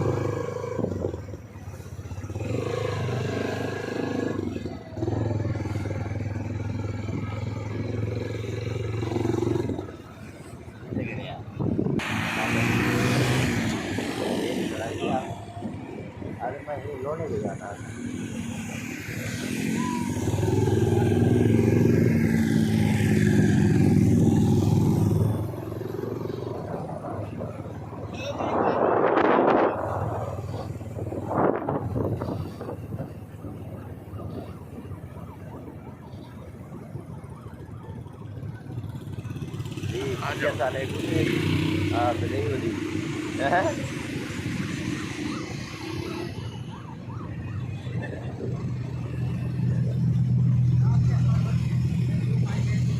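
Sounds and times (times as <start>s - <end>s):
loud vehicle engine: 0.0s - 52.9s.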